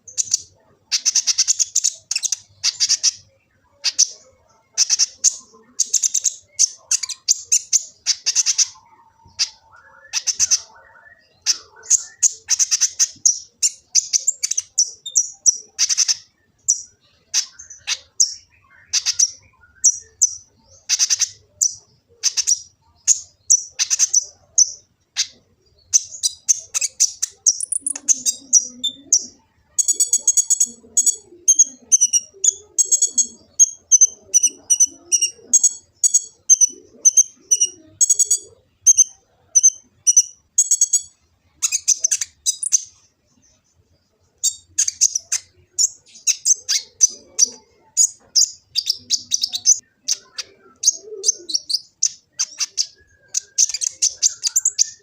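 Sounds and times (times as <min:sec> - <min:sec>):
bird chirping and trilling: 0:00.0 - 0:55.0.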